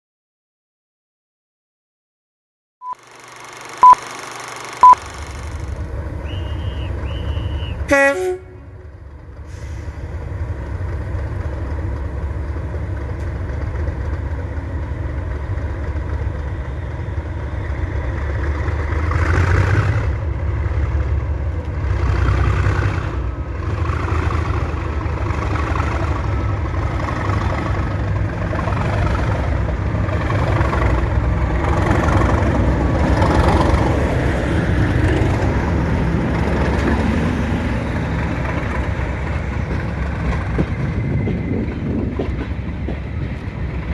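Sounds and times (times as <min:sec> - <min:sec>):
diesel locomotive engine throbbing: 0:04.8 - 0:43.9.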